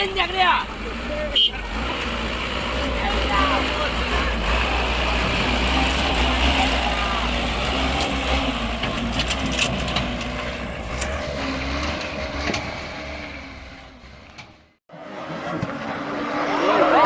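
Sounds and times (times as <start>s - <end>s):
vehicle driving rumble: 0.0s - 17.0s.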